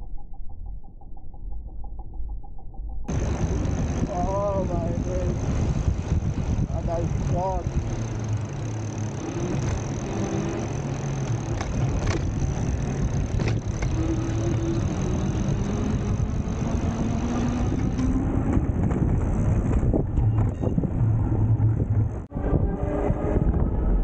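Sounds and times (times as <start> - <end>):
engine pitch rising: 3.1 - 24.0
vehicles passing: 3.1 - 24.0.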